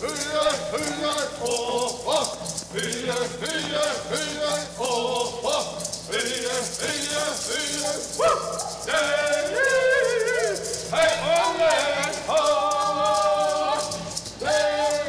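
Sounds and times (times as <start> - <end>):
chorus singing: 0.0 - 15.0
gourd rattles shaking: 0.0 - 15.0.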